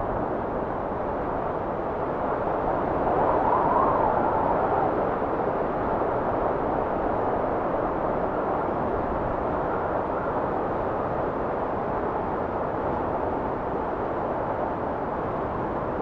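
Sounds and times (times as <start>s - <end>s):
steady wind: 0.0s - 16.0s.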